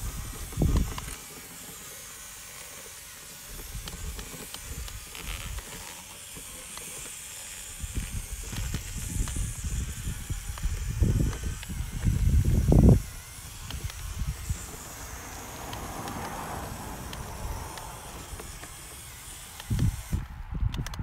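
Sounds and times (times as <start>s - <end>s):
small electric motor hissing: 0.0s - 21.0s.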